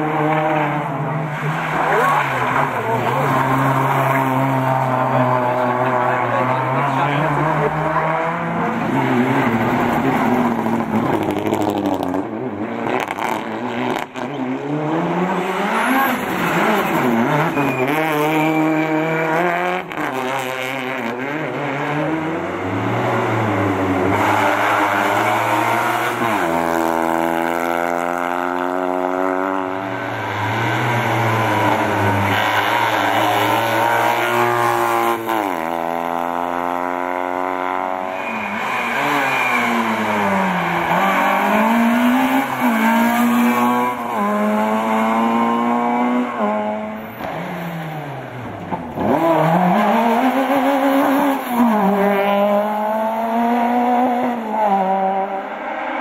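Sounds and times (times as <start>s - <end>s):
racing car engines revving high: 0.0s - 56.0s.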